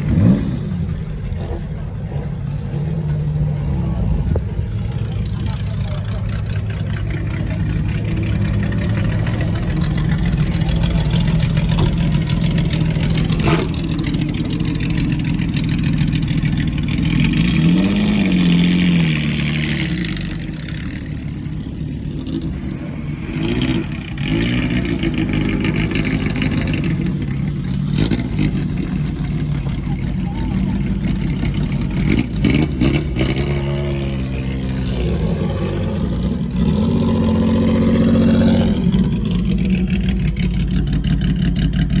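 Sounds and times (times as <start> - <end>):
engine revving: 0.0 - 42.0
racing car engines idling: 0.0 - 42.0.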